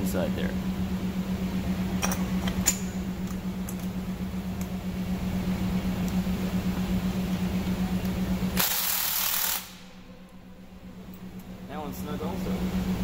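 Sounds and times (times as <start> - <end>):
pulsing machine hum: 0.0 - 13.0.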